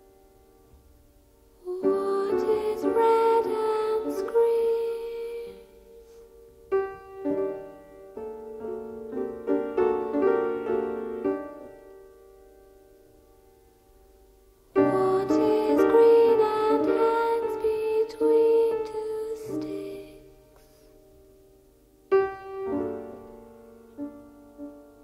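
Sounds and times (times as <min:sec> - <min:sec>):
soft piano notes: 0:00.0 - 0:25.0.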